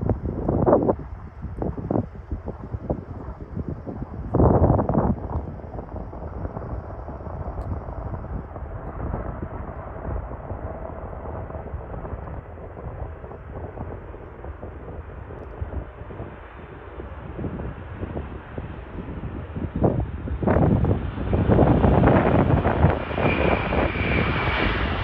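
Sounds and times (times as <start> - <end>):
distant jet engines rumbling: 0.0 - 25.0
wind buffeting microphone: 0.0 - 25.0.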